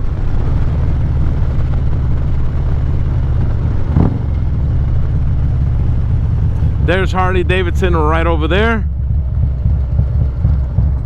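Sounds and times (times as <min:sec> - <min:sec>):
motorcycle exhaust at cruising speed: 0:00.0 - 0:11.0.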